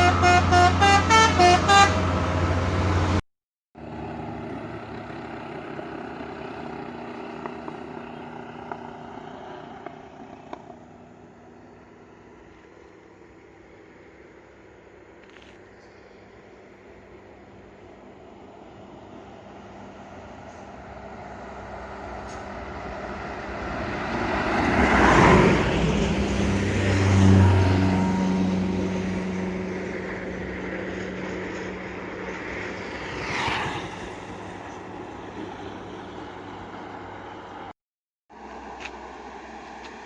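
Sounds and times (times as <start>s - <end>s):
diesel bus engine passing: 0.0s - 3.2s, 3.8s - 15.2s, 16.0s - 37.7s, 38.4s - 40.0s.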